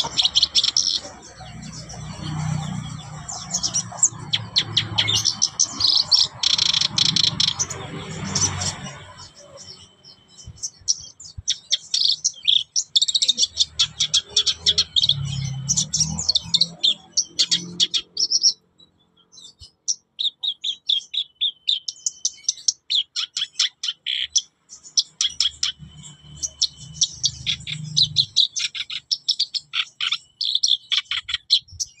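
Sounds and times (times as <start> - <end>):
warbler singing: 0.0 - 32.0.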